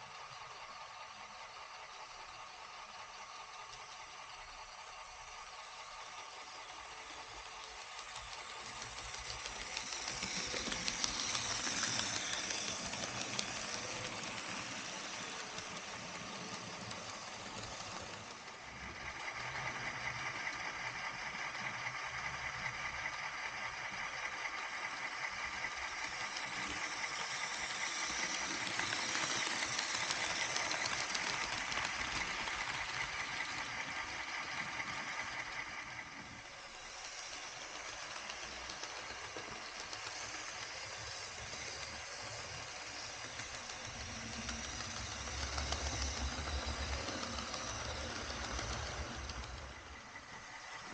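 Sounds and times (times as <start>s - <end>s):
model train motors humming: 0.0s - 50.9s
wheels on rails: 0.0s - 50.9s.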